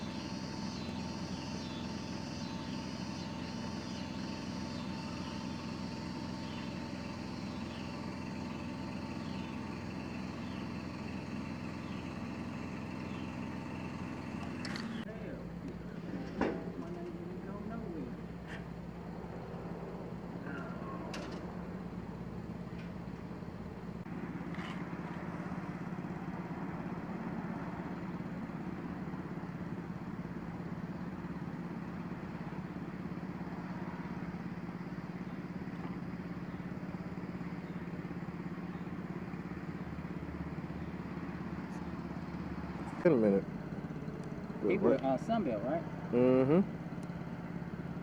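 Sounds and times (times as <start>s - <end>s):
motor humming: 0.0s - 48.0s.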